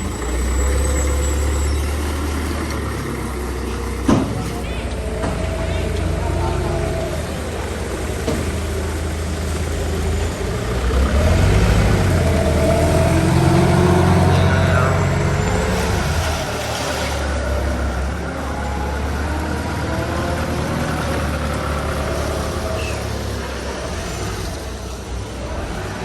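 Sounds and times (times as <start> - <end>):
large vehicle engine running: 0.0 - 26.0.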